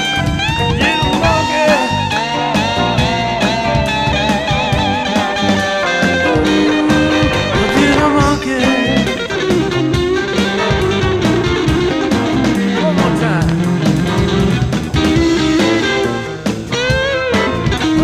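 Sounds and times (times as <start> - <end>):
blues rock guitar: 0.0 - 18.0
steady drum beat: 0.1 - 18.0.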